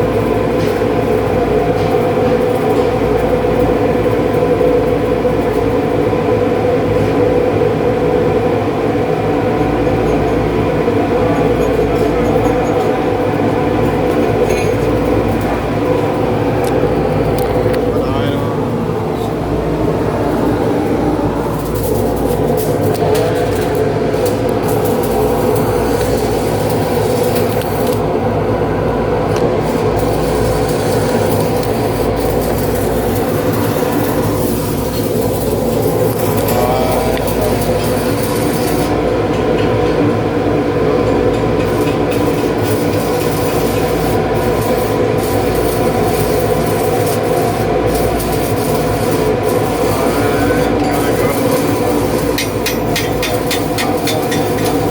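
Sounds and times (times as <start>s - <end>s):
loud mechanical drone: 0.0s - 54.9s.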